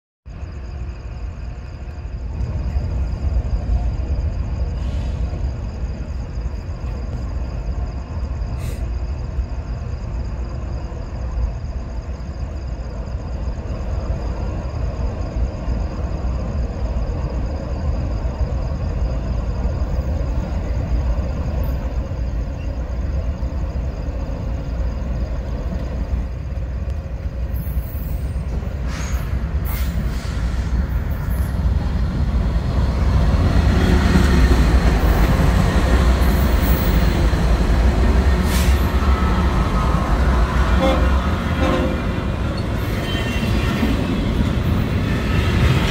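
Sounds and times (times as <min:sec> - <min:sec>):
freight train wheels rumbling on rail: 0:00.4 - 0:45.9.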